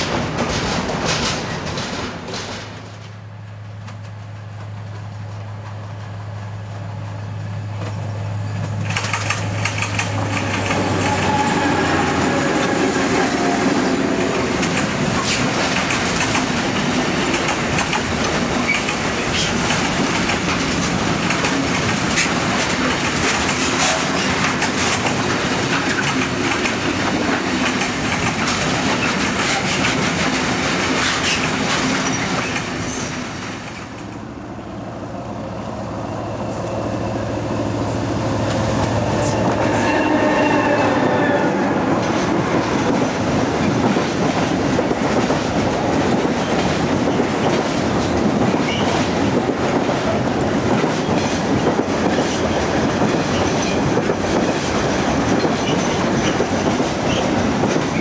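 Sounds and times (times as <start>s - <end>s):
rapid rail clatter: 0.0s - 34.3s, 41.8s - 58.0s
diesel locomotive engine humming: 0.0s - 58.0s
train wheels rumbling: 0.0s - 58.0s.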